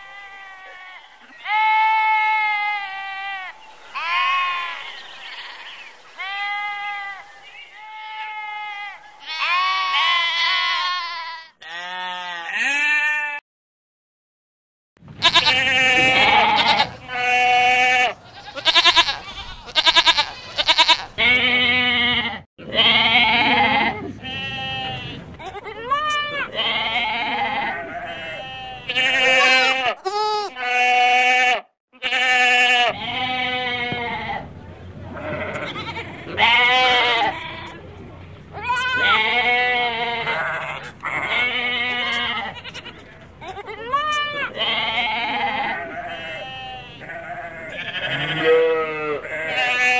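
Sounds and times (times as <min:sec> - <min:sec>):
goats bleating: 0:00.0 - 0:13.4, 0:15.2 - 0:34.5, 0:35.2 - 0:37.9, 0:38.5 - 0:49.9.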